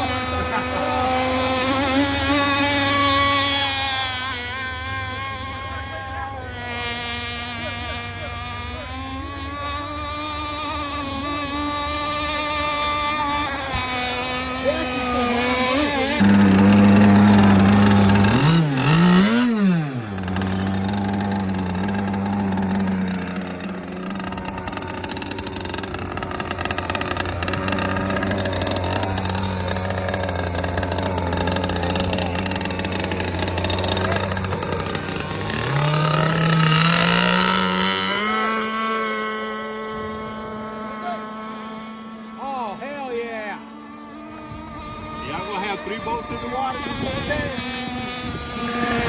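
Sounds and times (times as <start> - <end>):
small two-stroke engine revving: 0.0 - 49.0.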